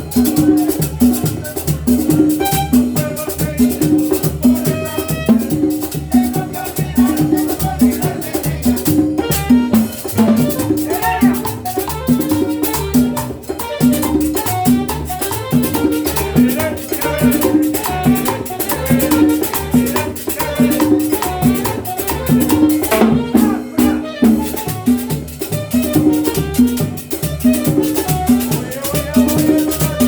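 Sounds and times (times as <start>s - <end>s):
latin dance music: 0.0s - 30.0s.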